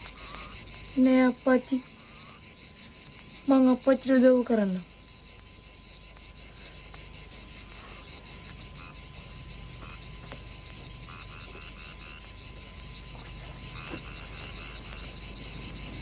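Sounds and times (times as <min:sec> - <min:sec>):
frogs croaking: 0:00.0 - 0:16.0
insects chirring: 0:00.0 - 0:16.0.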